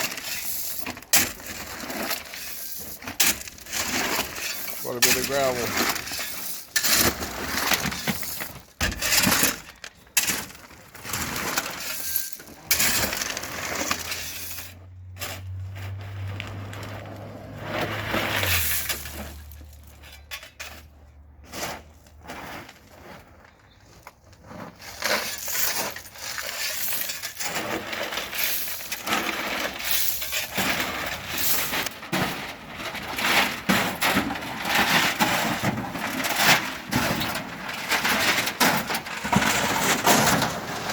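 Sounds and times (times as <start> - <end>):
gravel scraping and clattering: 0.0 - 40.9.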